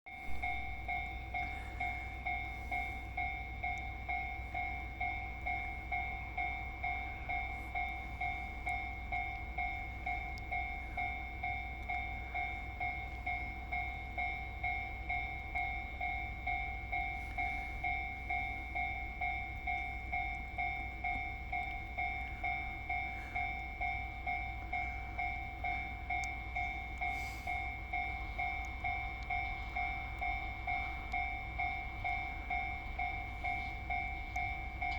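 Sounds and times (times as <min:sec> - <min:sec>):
level crossing bell ringing: 0:00.2 - 0:34.9.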